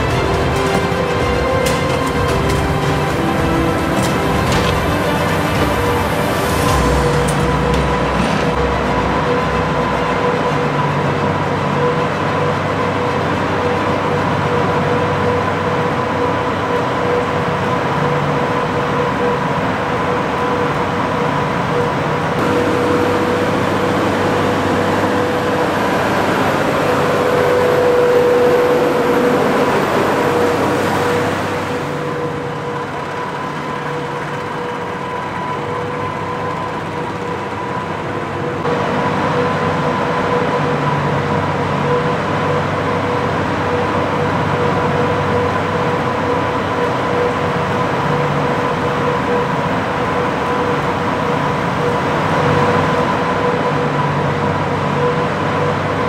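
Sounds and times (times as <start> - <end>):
tractor and feed mixer running: 0.0 - 56.0.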